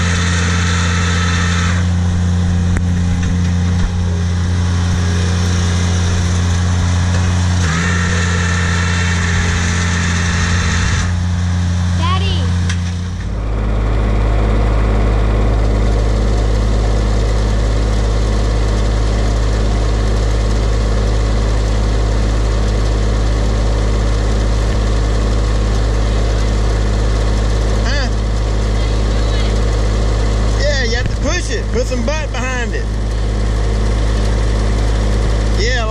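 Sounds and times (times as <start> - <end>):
riding mower engine running: 0.0 - 35.9.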